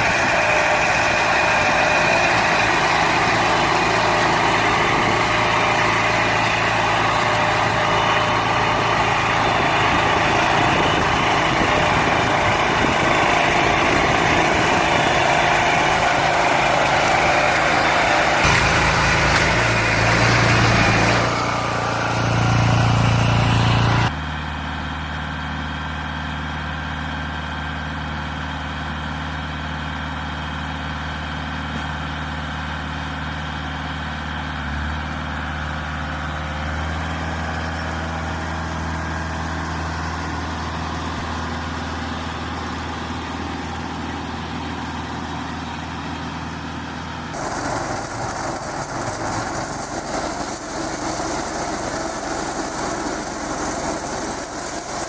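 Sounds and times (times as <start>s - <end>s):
hay baler clatter: 0.0s - 24.1s, 26.8s - 55.0s
tractor engine hum: 0.0s - 55.0s.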